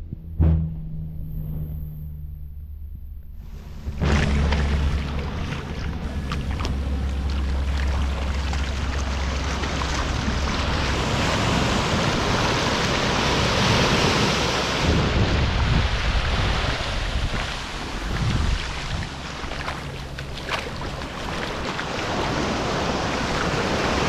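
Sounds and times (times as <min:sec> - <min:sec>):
wind buffeting microphone: 0:02.8 - 0:24.0
surf washing on beach: 0:03.5 - 0:24.0.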